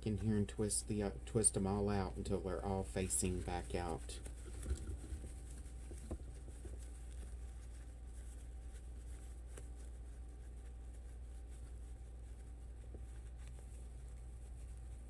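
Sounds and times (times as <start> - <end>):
ribbon rustling and crinkling: 0.0 - 15.0
steady low hum: 0.0 - 15.0.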